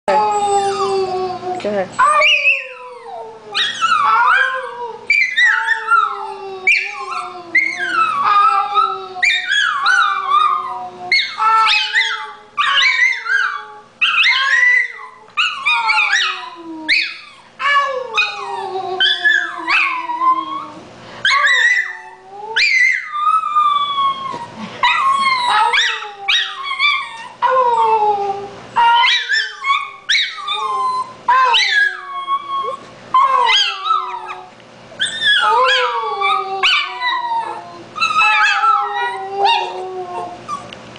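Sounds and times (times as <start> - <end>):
small dog howling: 0.1 - 40.7.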